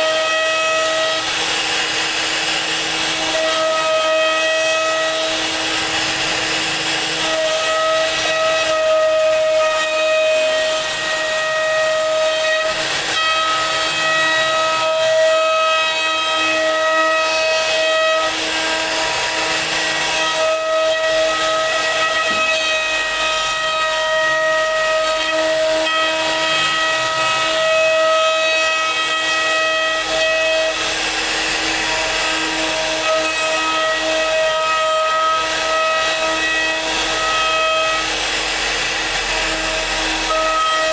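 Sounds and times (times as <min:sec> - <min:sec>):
hiss of bit cutting wood: 0:00.0 - 0:40.9
router spindle whining: 0:00.0 - 0:40.9.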